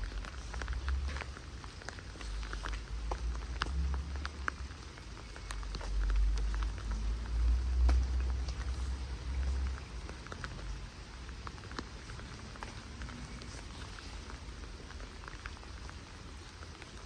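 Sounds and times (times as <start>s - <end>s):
light rain: 0.0s - 17.0s.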